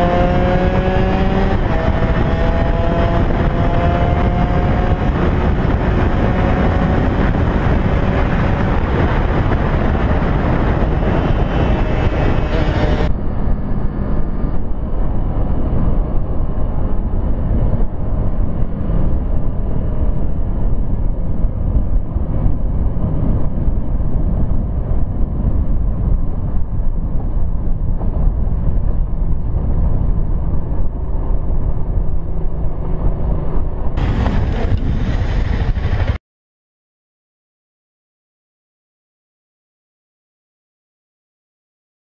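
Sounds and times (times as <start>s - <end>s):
motorcycle engine running: 0.0s - 36.2s
wind rush over microphone: 0.0s - 36.2s.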